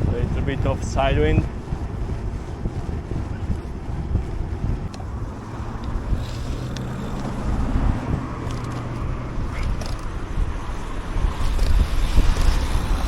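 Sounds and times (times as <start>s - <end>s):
low steady hum: 0.0s - 13.0s
wind rushing over microphone: 0.0s - 13.0s.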